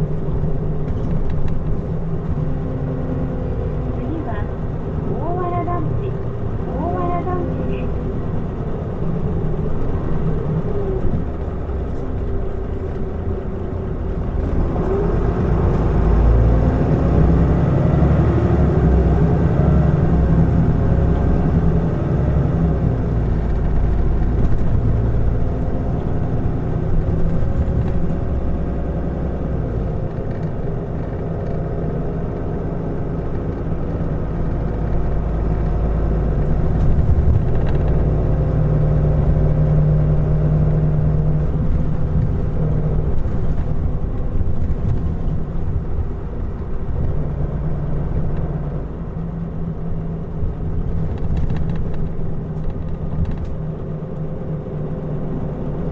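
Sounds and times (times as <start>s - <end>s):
bus diesel engine running: 0.0s - 55.9s
road and drivetrain noise: 0.0s - 55.9s.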